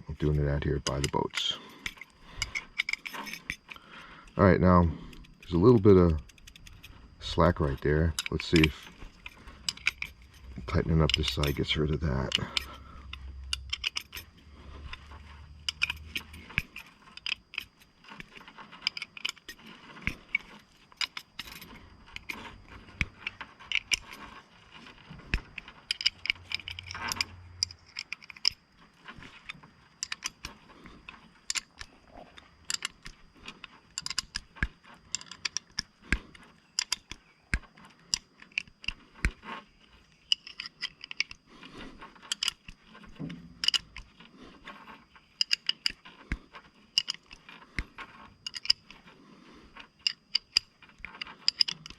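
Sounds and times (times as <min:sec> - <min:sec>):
wrench metal clicks and clinks: 0:00.0 - 0:39.4, 0:40.2 - 0:41.4, 0:42.2 - 0:44.1, 0:45.4 - 0:46.3, 0:46.9 - 0:49.1, 0:49.9 - 0:51.9.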